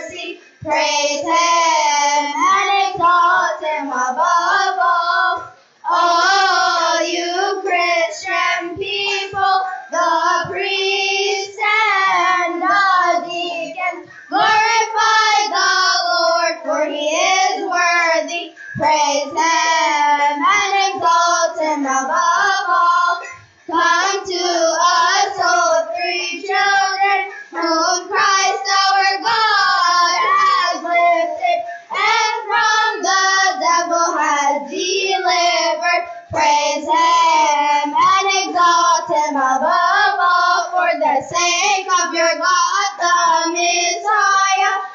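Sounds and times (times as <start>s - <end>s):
children's choir singing: 0.0s - 44.9s.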